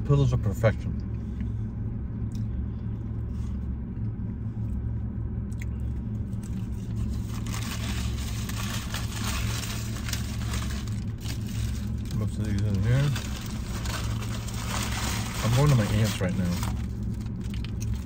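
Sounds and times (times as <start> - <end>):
car engine idling: 0.0 - 18.0
chewing and crunching: 1.0 - 18.0.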